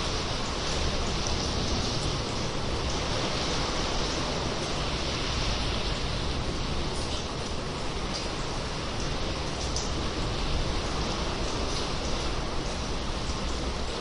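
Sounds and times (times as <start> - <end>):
faint water drips: 0.0 - 14.0
sea water washing in a cave: 0.0 - 14.0.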